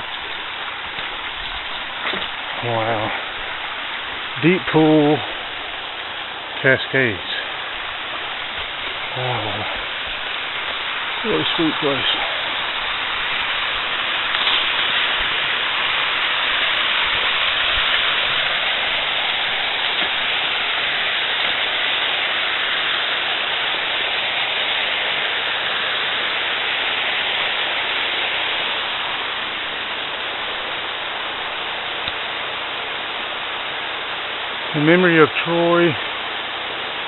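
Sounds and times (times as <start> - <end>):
river water rushing over rocks: 0.0 - 37.0.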